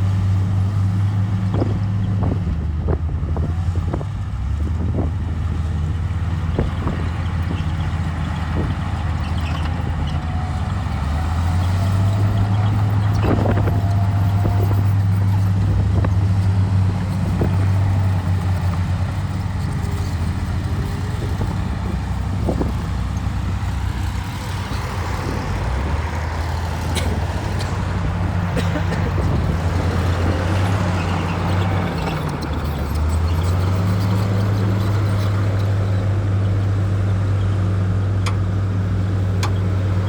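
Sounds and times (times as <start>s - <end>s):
heavy diesel engine droning: 0.0s - 40.0s.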